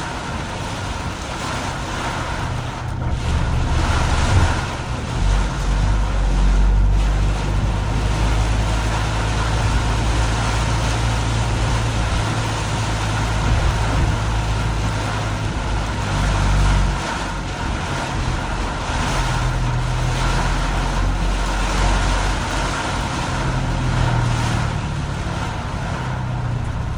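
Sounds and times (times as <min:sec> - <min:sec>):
car engine and road rumble: 0:00.0 - 0:26.9
rain and tyre spray hiss: 0:00.0 - 0:26.9.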